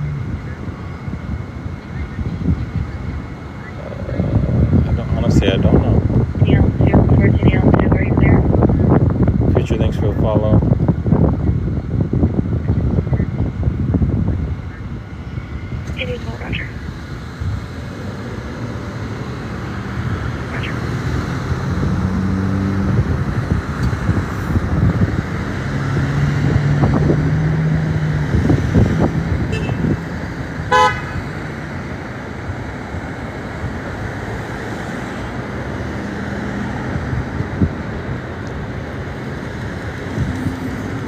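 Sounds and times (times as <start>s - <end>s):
car and truck engines passing: 0.0s - 41.0s.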